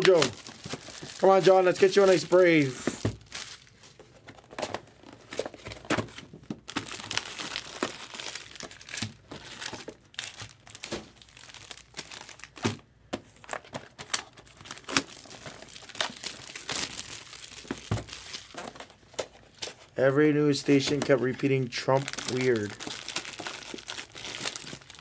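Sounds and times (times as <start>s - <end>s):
plastic wrapping crinkling: 0.0s - 19.9s, 20.5s - 25.0s.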